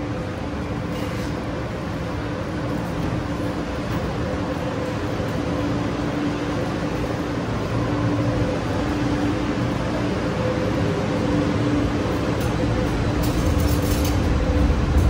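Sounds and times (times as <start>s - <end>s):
train air conditioning hum: 0.0s - 15.0s.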